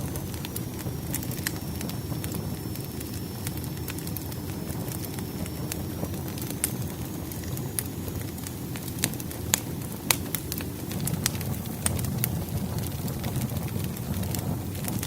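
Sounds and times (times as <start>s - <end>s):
logs crackling and popping: 0.0s - 15.0s
wood fire roaring: 0.0s - 15.0s.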